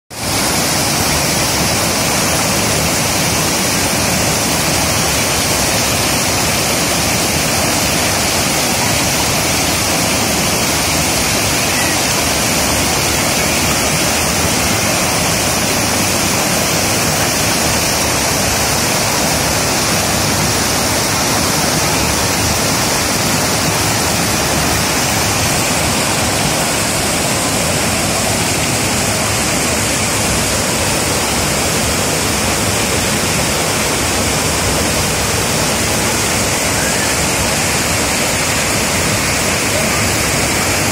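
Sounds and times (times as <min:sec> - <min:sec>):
waterfall rushing roar: 0:00.1 - 0:40.9.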